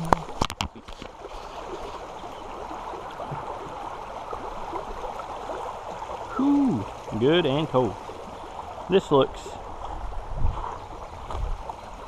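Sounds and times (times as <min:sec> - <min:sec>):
creek water babbling: 0:00.0 - 0:12.0.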